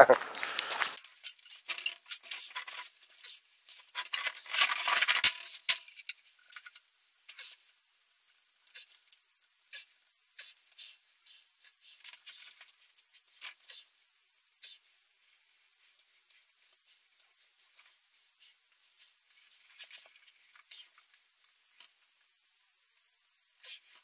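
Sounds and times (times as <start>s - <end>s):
plastic pipes clicking and scraping: 0.0s - 14.0s, 15.7s - 22.3s.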